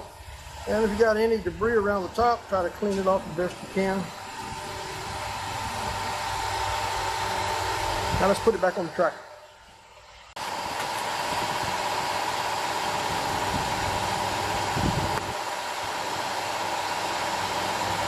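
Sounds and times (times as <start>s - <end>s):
mechanical hum with whine: 0.0s - 18.0s.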